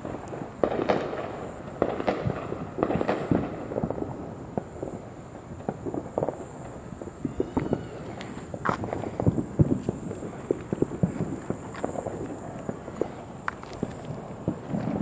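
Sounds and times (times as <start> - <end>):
firecrackers popping: 0.0 - 15.0.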